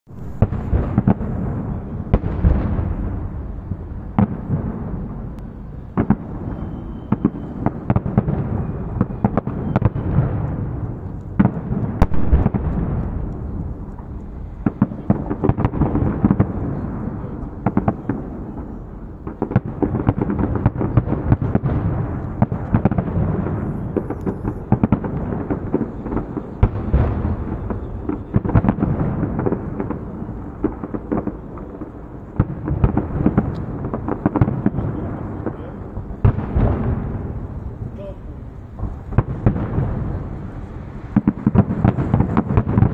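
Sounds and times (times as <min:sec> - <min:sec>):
low rumble of fireworks: 0:00.0 - 0:42.9
firework bangs: 0:00.1 - 0:42.9.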